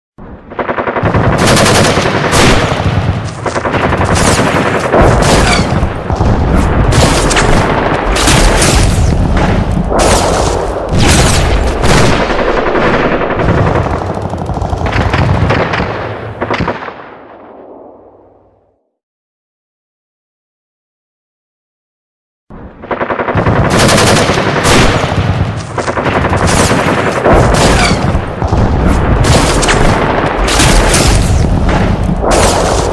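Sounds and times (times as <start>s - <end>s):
automatic gunfire: 0.6s - 17.0s, 22.9s - 32.9s.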